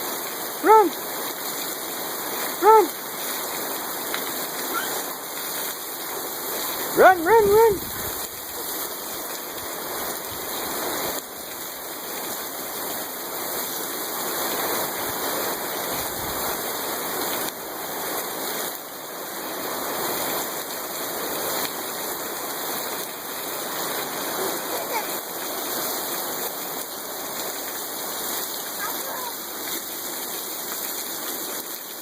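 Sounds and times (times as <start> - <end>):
rain hissing: 0.0 - 32.0.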